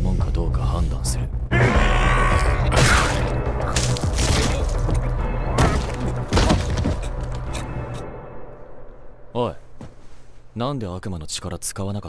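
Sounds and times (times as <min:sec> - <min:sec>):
dramatic music: 0:00.0 - 0:09.8.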